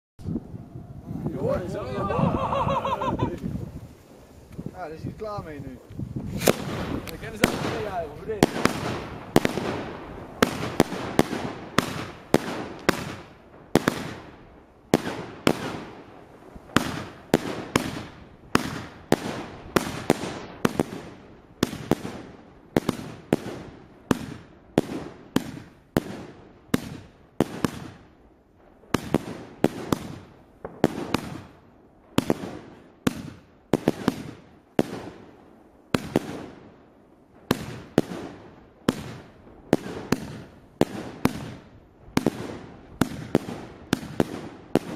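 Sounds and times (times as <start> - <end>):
firework bangs: 0.4 - 28.2, 28.8 - 44.9.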